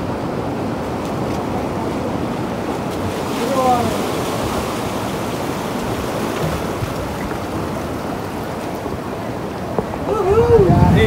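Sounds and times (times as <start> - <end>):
sea surf washing over rocks: 0.0 - 11.0.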